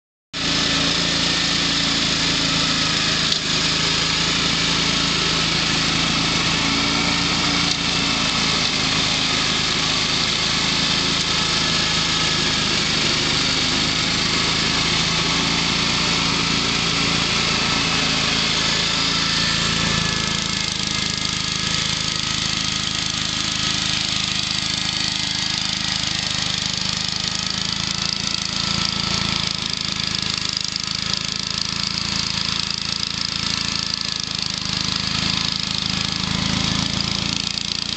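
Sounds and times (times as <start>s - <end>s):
walk-behind tractor engine running: 0.4s - 37.9s.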